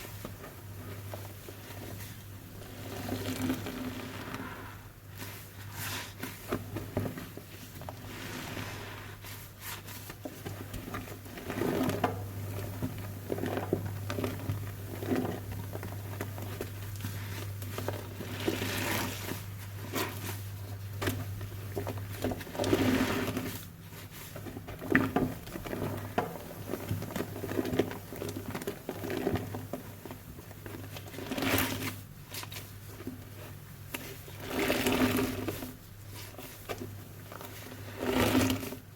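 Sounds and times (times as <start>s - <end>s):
soapy sponge squelching: 0.0s - 38.9s.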